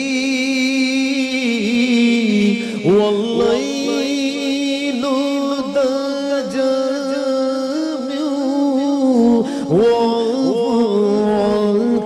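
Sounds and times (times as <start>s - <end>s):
man singing a long note: 0.0s - 12.0s.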